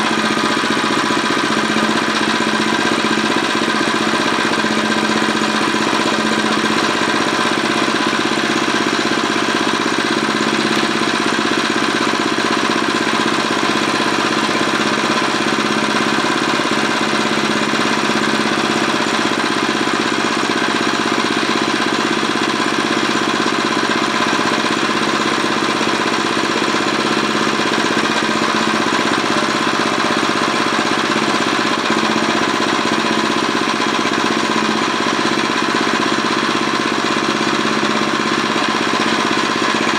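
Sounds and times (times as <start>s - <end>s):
small tiller engine running: 0.0s - 39.9s.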